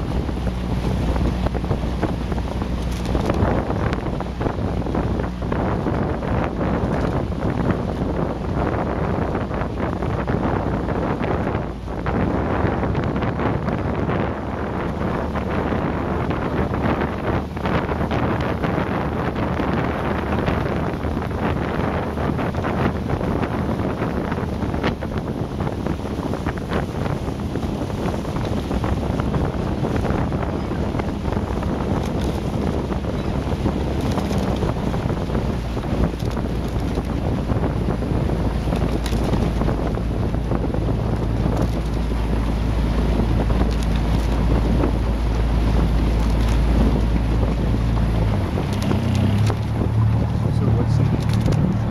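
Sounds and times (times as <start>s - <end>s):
motor boat droning: 0.0s - 51.9s
wind buffeting microphone: 0.0s - 51.9s.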